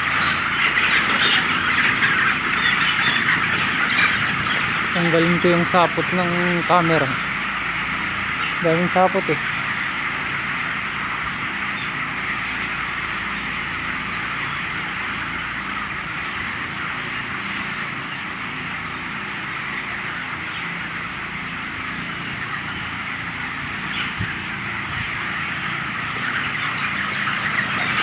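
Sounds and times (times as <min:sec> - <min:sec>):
flock of chickens calling: 0:00.0 - 0:28.0
ventilation fans humming: 0:00.0 - 0:28.0.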